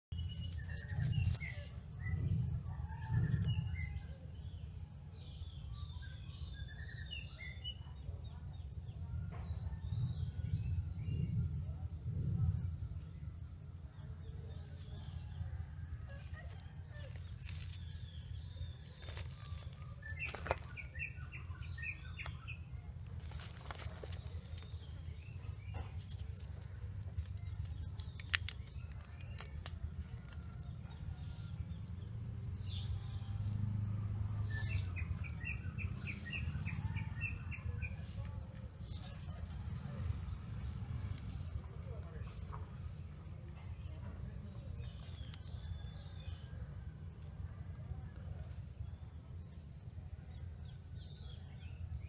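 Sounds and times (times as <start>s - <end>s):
small birds chirping: 0.0s - 52.0s
steady low rumble: 0.1s - 5.8s, 8.7s - 52.0s.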